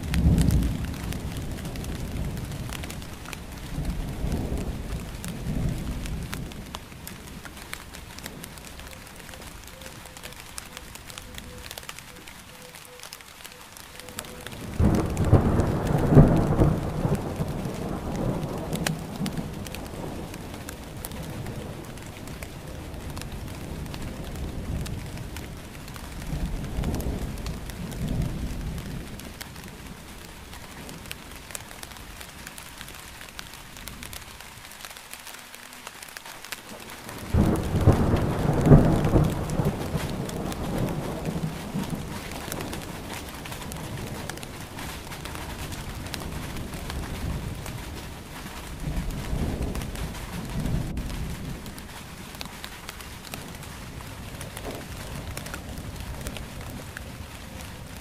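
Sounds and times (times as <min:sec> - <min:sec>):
thunder rumbling: 0:00.0 - 0:34.7, 0:36.4 - 0:58.0
rain falling: 0:00.0 - 0:58.0.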